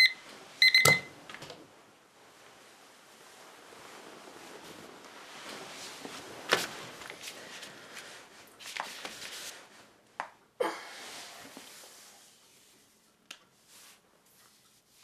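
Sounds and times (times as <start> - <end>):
bedsheet rustling: 0.2 - 10.1, 10.9 - 15.0.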